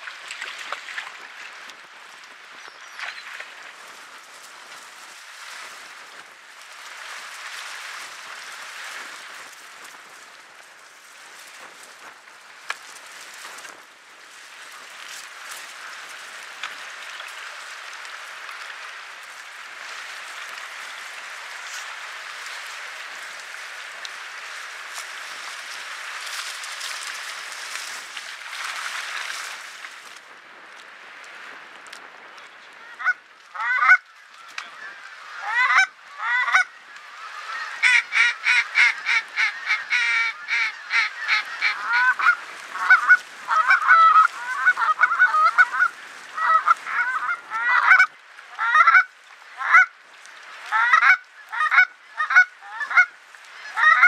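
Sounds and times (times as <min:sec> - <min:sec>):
choppy lake water: 0:00.0 - 0:54.0.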